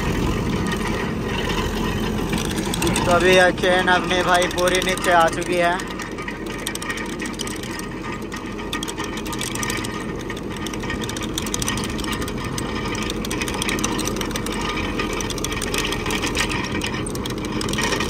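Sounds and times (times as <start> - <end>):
digging chain rattling: 0.0 - 18.0
tractor engine drone: 0.0 - 18.0.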